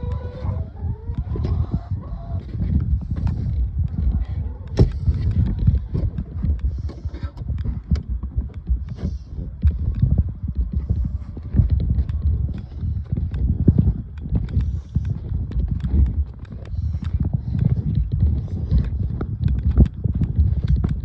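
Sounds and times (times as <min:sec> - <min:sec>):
footsteps walking: 0:00.0 - 0:21.0.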